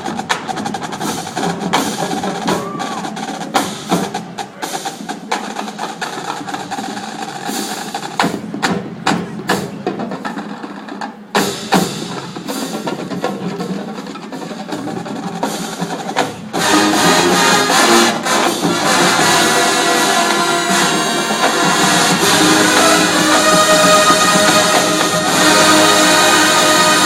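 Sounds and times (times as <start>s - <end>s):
brass band chords: 0.0s - 27.0s.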